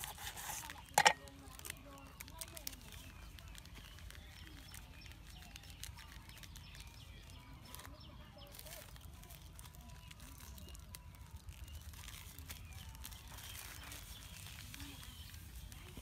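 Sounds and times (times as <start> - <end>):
plastic packets crinkling: 0.0 - 16.0.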